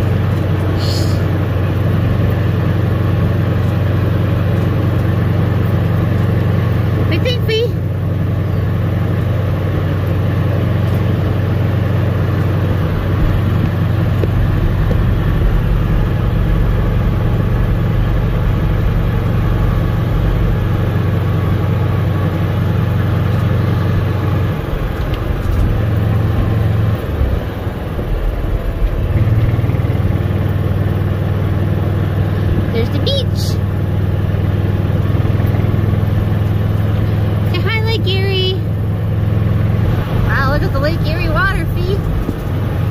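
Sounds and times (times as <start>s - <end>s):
golf cart engine humming: 0.0s - 42.9s.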